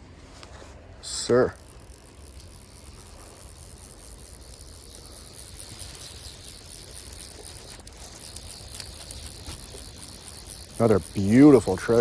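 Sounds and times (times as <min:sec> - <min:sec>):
insects trilling: 0:01.3 - 0:12.0.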